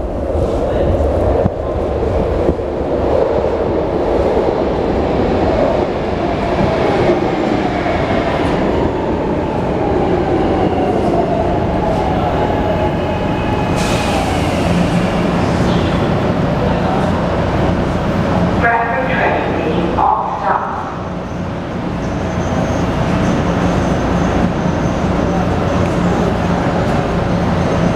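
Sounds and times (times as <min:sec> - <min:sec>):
train rumbling with whining tones: 0:00.0 - 0:27.9.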